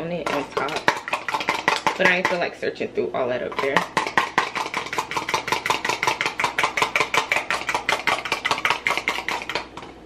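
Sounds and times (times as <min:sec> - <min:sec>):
egg beaten in glass bowl: 0:00.0 - 0:10.0.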